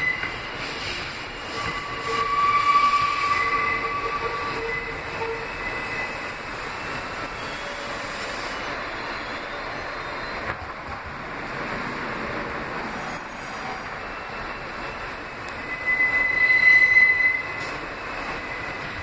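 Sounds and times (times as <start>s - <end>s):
subway car running noise: 0.0s - 19.0s
subway wheels squealing: 0.0s - 19.0s.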